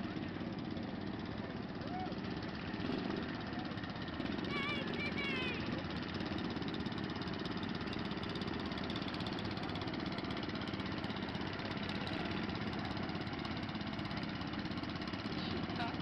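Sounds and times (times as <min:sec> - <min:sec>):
garden tractor engine running: 0:00.0 - 0:16.0.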